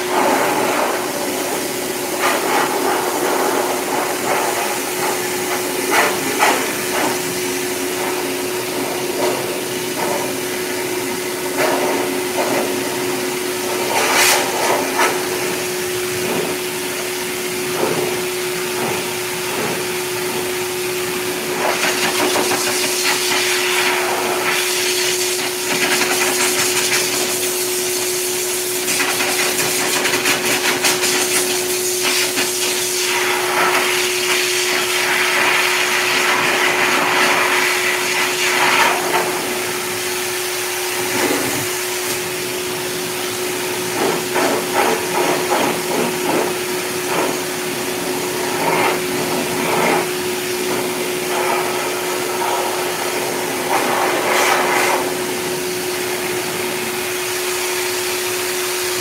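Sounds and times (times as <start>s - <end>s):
dog dryer motor whine: 0.0s - 59.0s.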